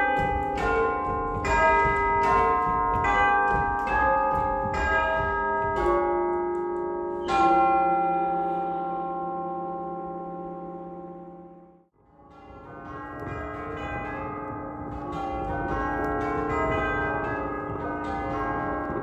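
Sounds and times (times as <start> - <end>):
tubular bells playing a tune: 0.0 - 11.7, 12.4 - 19.0.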